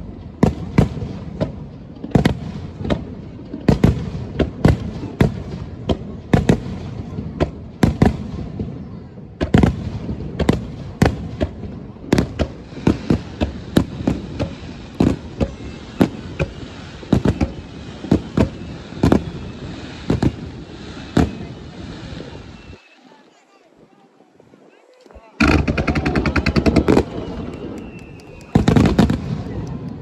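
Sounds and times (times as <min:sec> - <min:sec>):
fireworks bursting: 0:00.0 - 0:23.5, 0:24.6 - 0:30.0.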